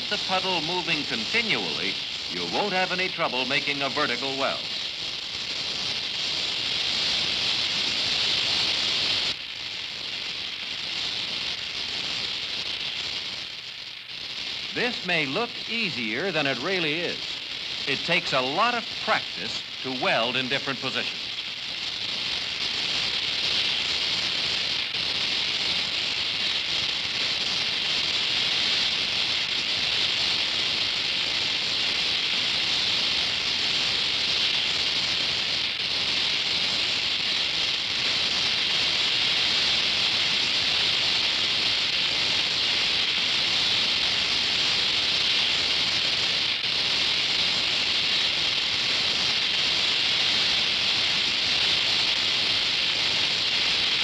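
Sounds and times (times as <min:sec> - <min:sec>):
welding torch flame hissing: 0:00.0 - 0:54.0.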